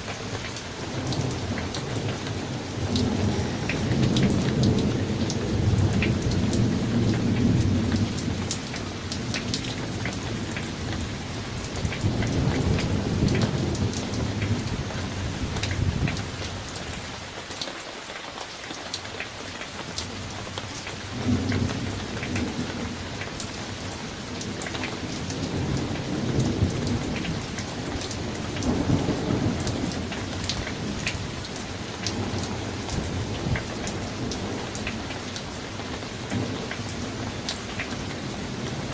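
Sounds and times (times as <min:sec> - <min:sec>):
raindrops ticking: 0:00.0 - 0:38.9
steady rain: 0:00.0 - 0:38.9
thunder rumbling: 0:00.8 - 0:16.4, 0:21.2 - 0:38.9.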